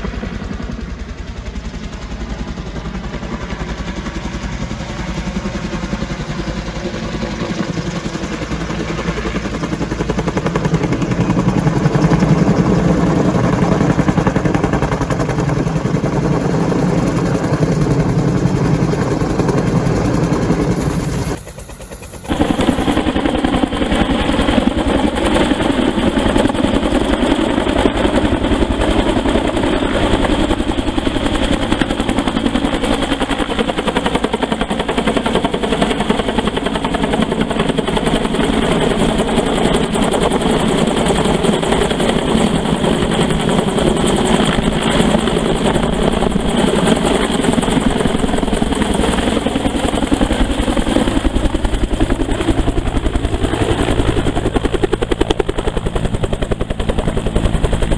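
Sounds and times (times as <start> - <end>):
helicopter rotor beating: 0.0 - 57.9
turbine engine whine: 0.0 - 57.9.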